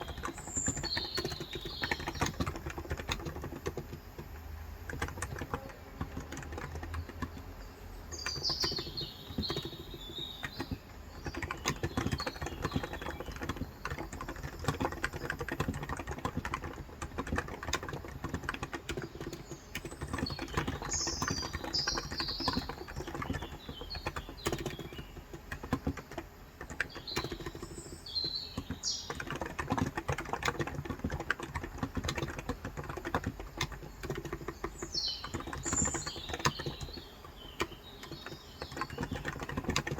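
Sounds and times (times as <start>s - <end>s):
birds chirping: 0.0s - 39.9s
typing on a keyboard: 0.0s - 39.9s.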